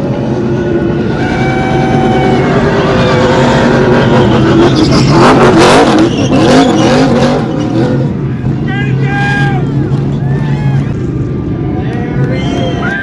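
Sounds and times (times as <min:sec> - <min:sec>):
race cars passing at high revs: 0:00.0 - 0:13.0.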